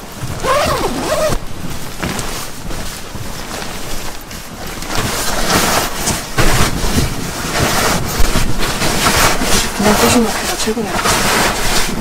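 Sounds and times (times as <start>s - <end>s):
sleeping bag nylon rustling: 0.0s - 12.0s.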